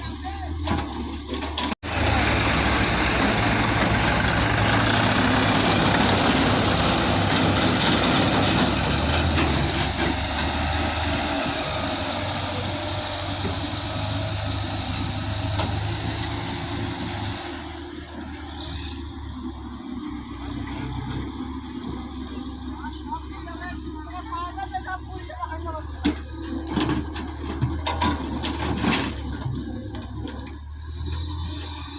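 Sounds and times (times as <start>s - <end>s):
diesel tractor engine running: 0.0s - 31.9s.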